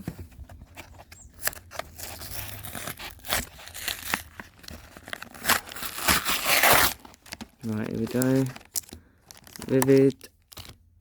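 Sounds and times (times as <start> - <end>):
packaging crinkling and tearing: 0.8 - 10.9.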